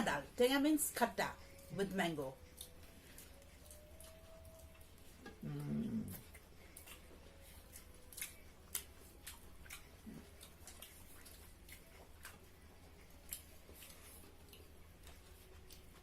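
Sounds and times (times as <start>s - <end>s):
low steady hum: 0.0s - 16.0s
people eating with clicks and smacks: 0.0s - 16.0s.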